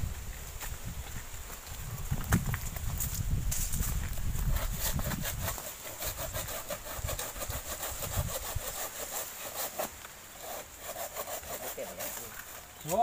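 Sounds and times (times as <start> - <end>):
palm fronds scraping and rustling: 0.0 - 13.0.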